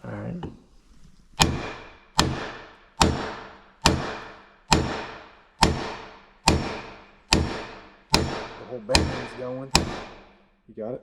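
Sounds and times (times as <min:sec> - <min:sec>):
hammer blows on metal: 0:01.4 - 0:10.4.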